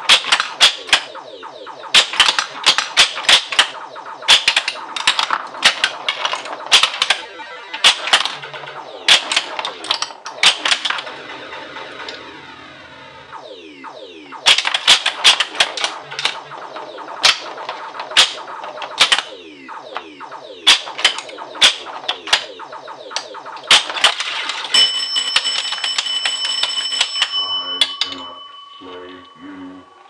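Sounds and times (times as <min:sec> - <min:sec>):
pinball mechanical clacks: 0:00.0 - 0:12.3, 0:14.3 - 0:28.3
electronic sound effects sweeping down: 0:00.0 - 0:30.0
high electronic tone: 0:00.0 - 0:30.0.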